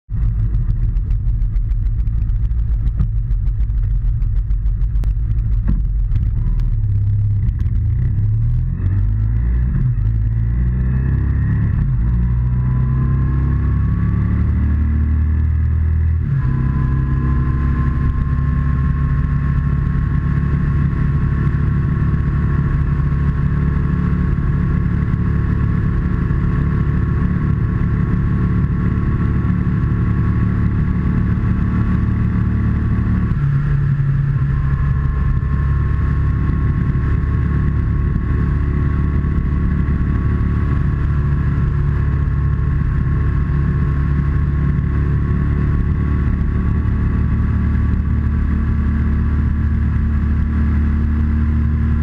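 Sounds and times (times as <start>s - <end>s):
motorcycle engine accelerating: 0.1s - 52.0s.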